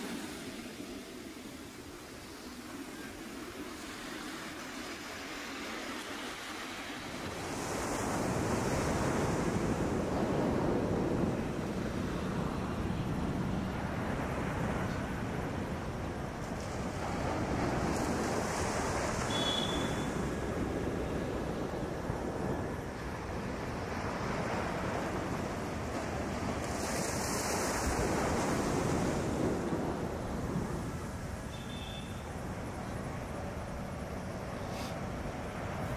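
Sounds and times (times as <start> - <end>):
ocean waves breaking on shore: 0.0 - 35.9.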